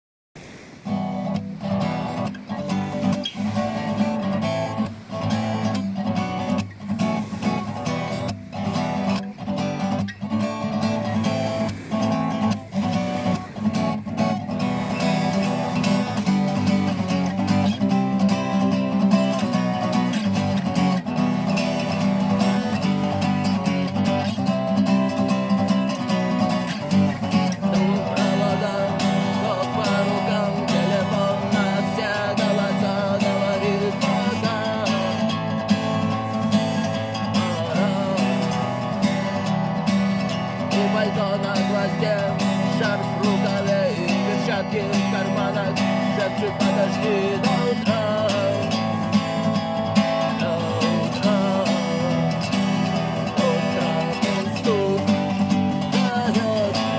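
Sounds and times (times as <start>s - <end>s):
strummed guitar music: 0.8s - 56.9s.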